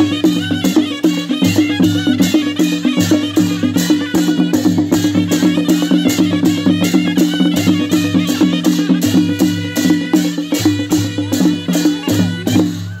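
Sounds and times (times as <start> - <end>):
drums: 0.0 - 13.0
hand cymbals clashing: 0.0 - 13.0
held wind melody: 0.0 - 13.0.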